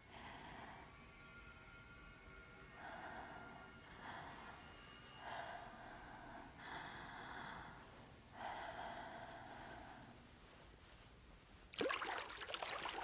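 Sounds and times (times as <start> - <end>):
woman breathing with rasping breaths: 0.0 - 11.1.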